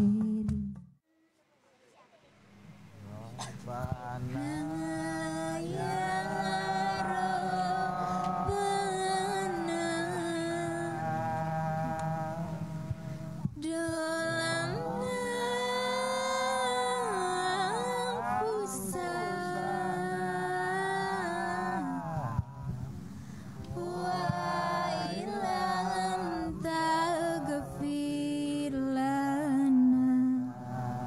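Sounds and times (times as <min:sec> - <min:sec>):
person singing unaccompanied: 0:00.0 - 0:00.8, 0:03.5 - 0:22.6, 0:23.6 - 0:31.0.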